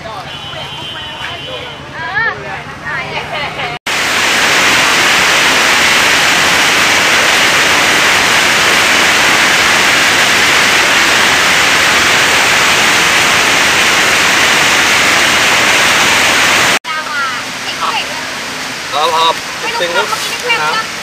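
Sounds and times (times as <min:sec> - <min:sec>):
waterfall roaring: 0:03.9 - 0:21.0.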